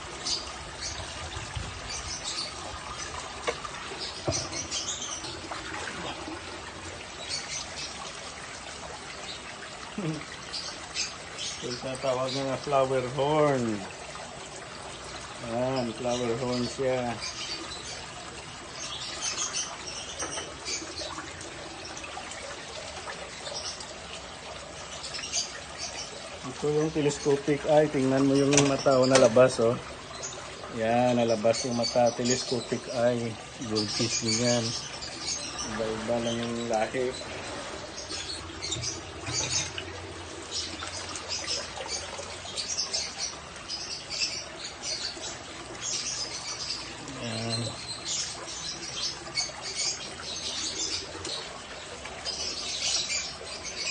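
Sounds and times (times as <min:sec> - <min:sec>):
pond water splashing and trickling: 0:00.0 - 0:53.9.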